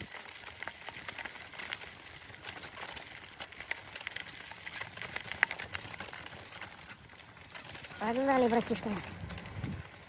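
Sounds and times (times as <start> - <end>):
small wheels rolling on gravel: 0.0 - 10.0.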